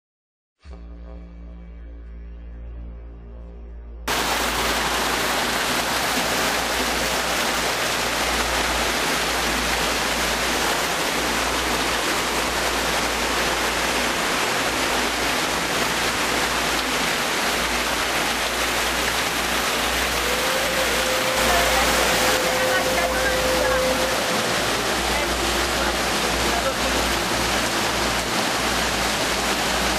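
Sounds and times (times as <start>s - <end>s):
waterfall splashing onto rocks: 4.1s - 29.9s.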